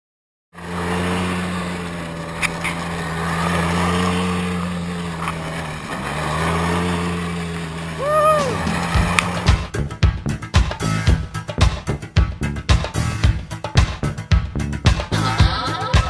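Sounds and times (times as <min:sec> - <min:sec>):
vehicle engine running: 0:00.5 - 0:16.0.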